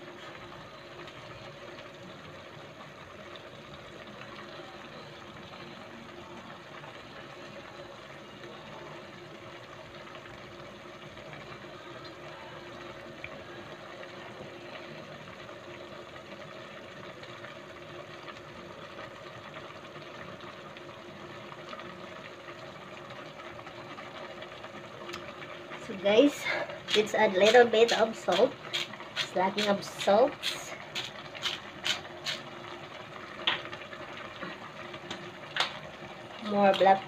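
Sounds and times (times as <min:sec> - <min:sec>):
faint hum: 0:00.0 - 0:37.0
soup simmering and bubbling: 0:00.0 - 0:37.0.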